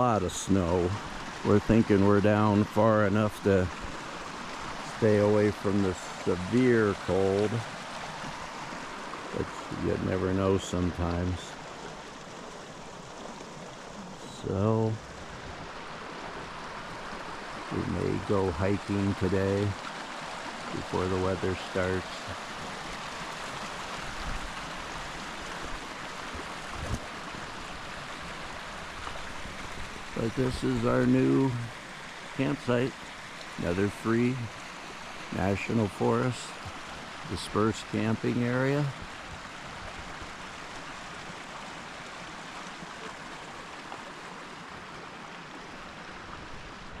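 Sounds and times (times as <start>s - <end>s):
mountain creek rushing: 0.0s - 47.0s.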